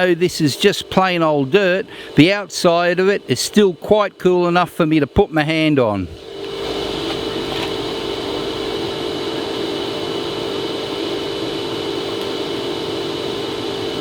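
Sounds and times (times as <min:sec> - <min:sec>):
blower humming: 0:00.0 - 0:14.0.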